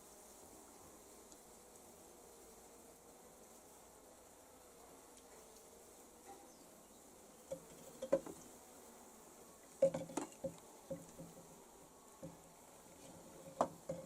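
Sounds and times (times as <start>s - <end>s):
bees buzzing faintly: 0.0s - 14.0s.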